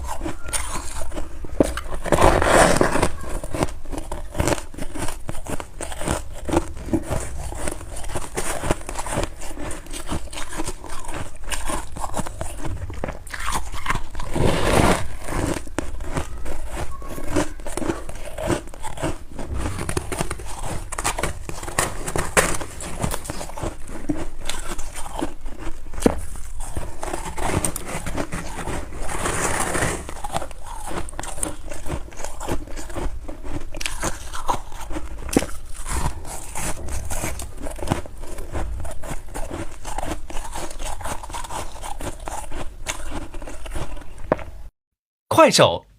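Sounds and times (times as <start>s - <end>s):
chewing crunchy frost: 0.0s - 44.7s.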